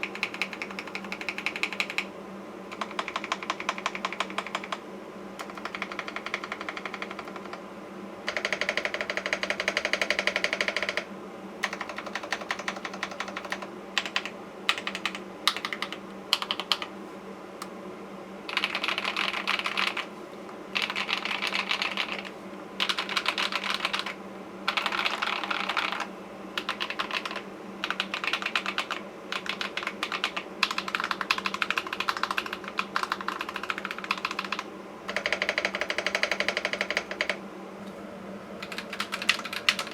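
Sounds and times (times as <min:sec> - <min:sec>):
mechanical keyboard typing: 0:00.0 - 0:02.1, 0:02.7 - 0:04.8, 0:05.4 - 0:07.6, 0:08.3 - 0:16.9, 0:18.5 - 0:20.1, 0:20.8 - 0:37.4, 0:38.6 - 0:39.9.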